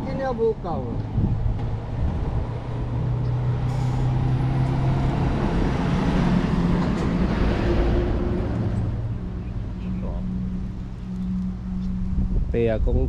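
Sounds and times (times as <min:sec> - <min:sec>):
heavy vehicle engine hum: 0:00.0 - 0:13.0
rushing noise of passing vehicle: 0:00.9 - 0:13.0.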